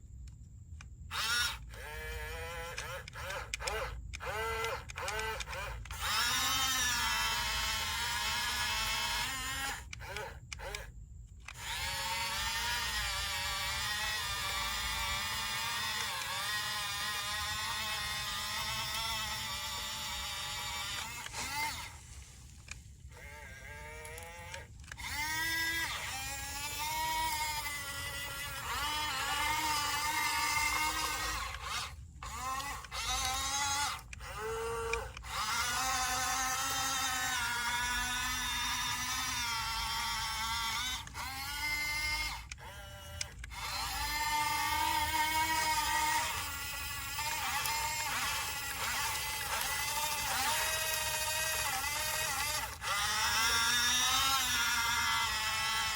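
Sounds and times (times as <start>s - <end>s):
toy electric motors whining: 0.0s - 55.9s.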